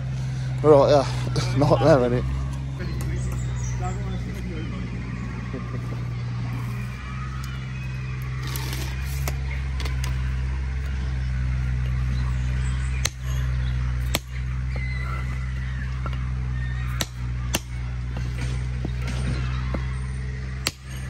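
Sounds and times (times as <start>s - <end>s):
machinery engine hum: 0.0s - 21.0s.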